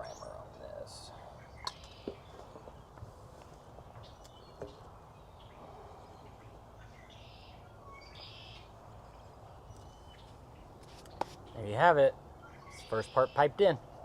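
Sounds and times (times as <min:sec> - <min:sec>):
distant birds chirping: 0:00.0 - 0:14.0.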